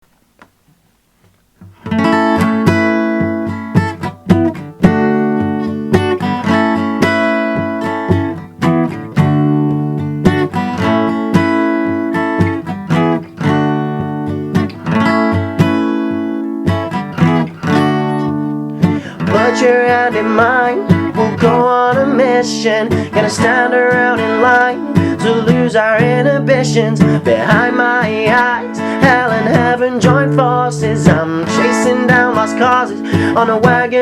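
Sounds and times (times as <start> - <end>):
acoustic guitar strumming: 1.2 - 34.0.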